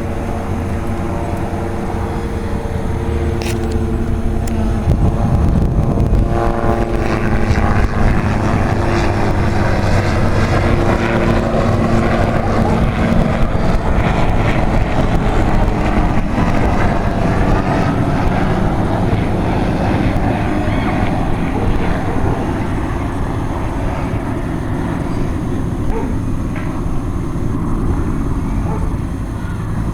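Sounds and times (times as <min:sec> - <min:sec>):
helicopter rotor and engine: 0:00.0 - 0:29.9
wind buffeting microphone: 0:00.0 - 0:29.9.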